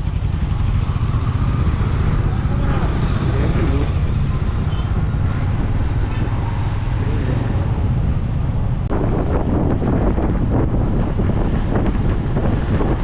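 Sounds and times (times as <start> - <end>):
motorcycle road noise: 0.0 - 13.0
wind rushing over microphone: 0.0 - 13.0.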